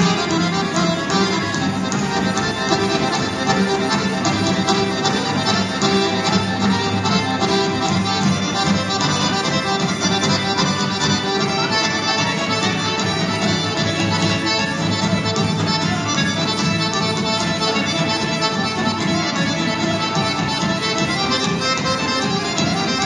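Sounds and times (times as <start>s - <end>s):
accordion folk dance music: 0.0s - 23.0s.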